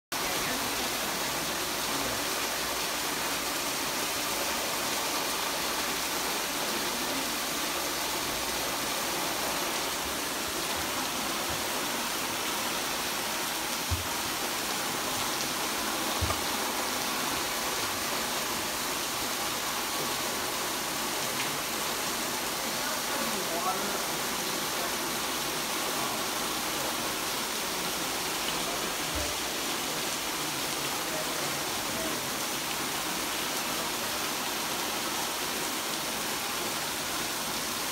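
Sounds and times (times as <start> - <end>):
water pouring and splashing: 0.2 - 37.9.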